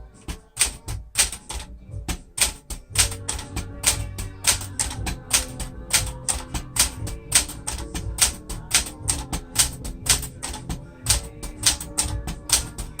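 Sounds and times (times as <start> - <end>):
typewriter clacking: 0.0 - 13.0.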